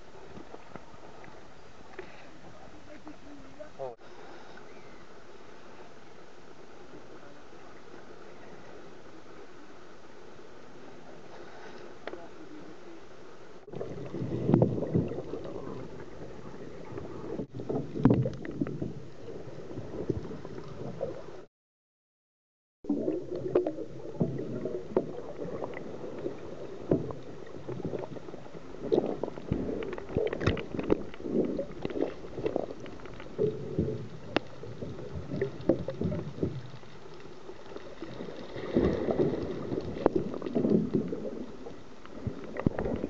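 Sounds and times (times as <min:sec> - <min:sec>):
muffled underwater churning water: 0:00.0 - 0:21.5, 0:22.8 - 0:43.0.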